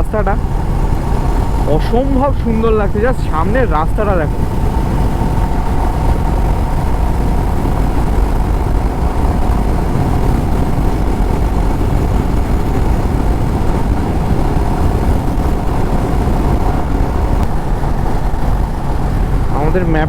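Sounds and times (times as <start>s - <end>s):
motorcycle running: 0.0s - 20.0s
steady low hum: 0.0s - 20.0s
wind rush on microphone: 0.0s - 20.0s.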